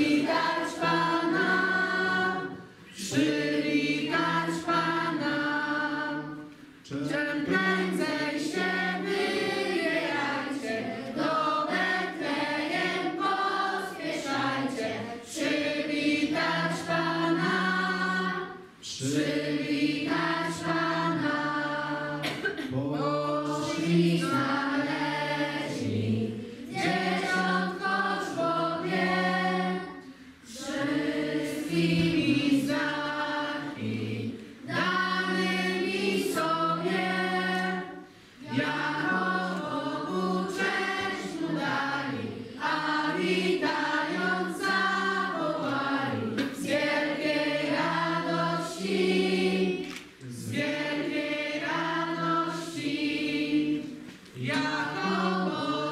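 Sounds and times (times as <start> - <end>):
children singing in unison: 0.0 - 55.9.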